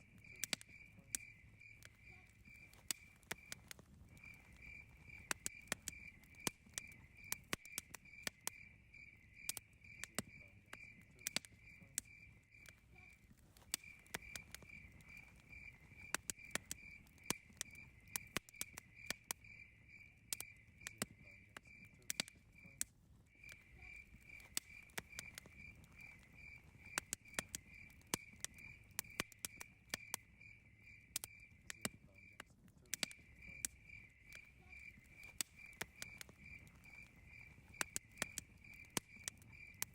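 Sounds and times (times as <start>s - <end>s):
campfire crackling and popping: 0.0s - 39.9s
cricket chirping: 0.0s - 39.9s.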